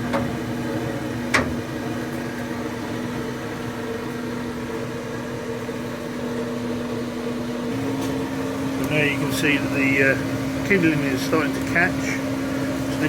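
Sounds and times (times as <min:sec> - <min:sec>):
blower fan humming: 0:00.0 - 0:13.0.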